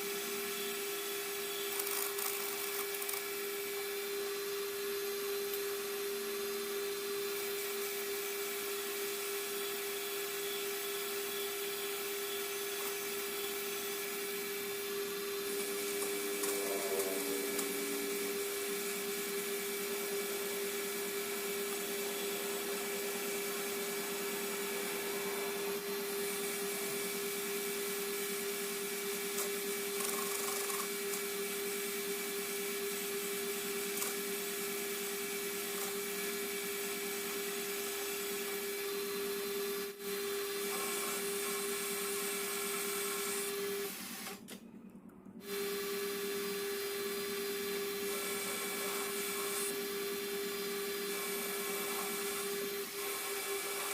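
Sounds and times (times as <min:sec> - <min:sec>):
metal lathe motor whine: 0:00.0 - 0:44.6, 0:45.4 - 0:53.9.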